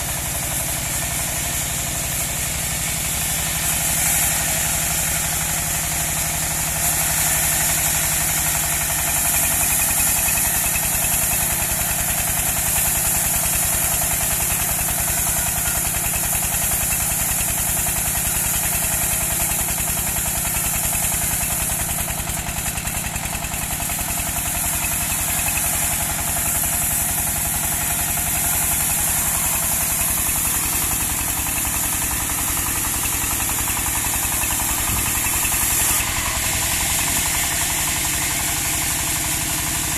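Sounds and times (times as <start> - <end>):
band saw hissing: 0.0 - 39.9
engine running: 0.0 - 39.9.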